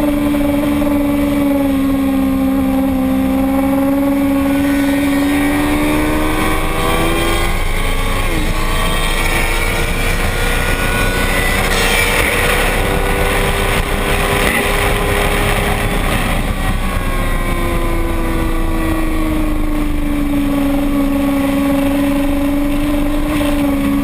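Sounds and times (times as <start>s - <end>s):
racing motorcycle engine: 0.0s - 24.0s.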